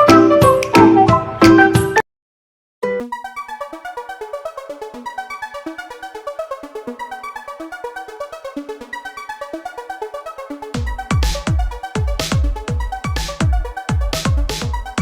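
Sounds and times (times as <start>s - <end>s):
pulsing synthesizer music: 2.8s - 15.0s.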